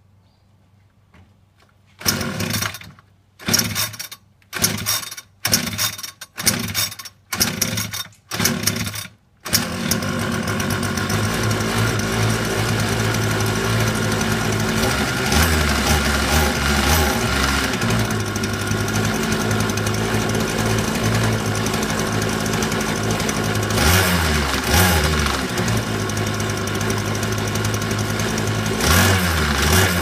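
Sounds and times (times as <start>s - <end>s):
recoil starter pulls: 2.0s - 30.0s
two-stroke engine running: 2.0s - 30.0s.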